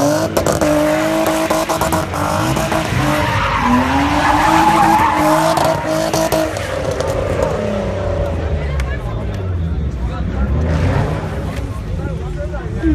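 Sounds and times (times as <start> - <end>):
car engine at high revs: 0.0 - 12.9
tyres skidding and screeching: 0.0 - 12.9.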